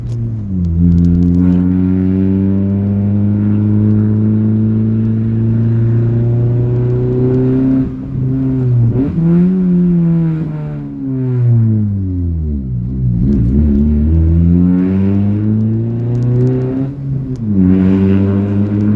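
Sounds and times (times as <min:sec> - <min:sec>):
loud car exhaust revving: 0:00.0 - 0:18.9.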